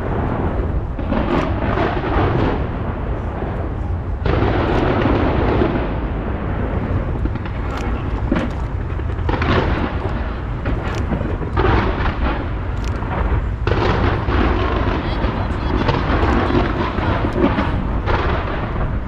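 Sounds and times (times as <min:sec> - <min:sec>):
fireworks crackle: 0:00.0 - 0:19.0
fireworks shells bursting: 0:01.0 - 0:02.8, 0:04.2 - 0:19.0.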